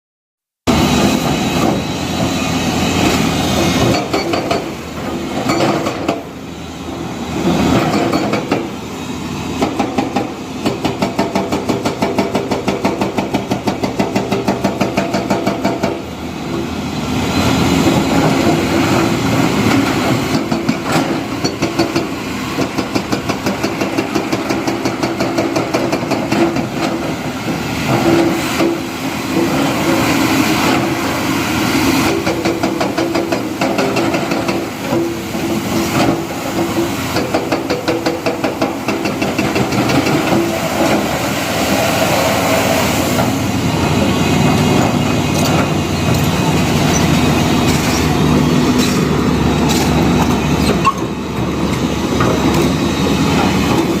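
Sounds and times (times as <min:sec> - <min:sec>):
diesel construction machinery: 0:00.7 - 0:54.0.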